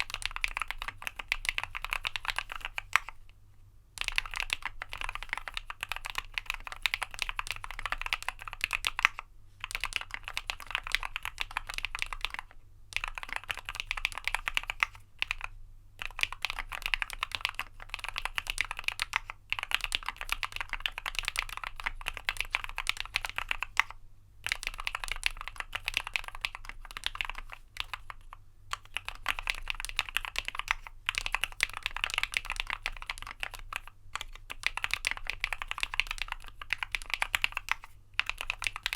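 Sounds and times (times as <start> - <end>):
mechanical keyboard typing: 0.0 - 3.1, 4.0 - 38.9.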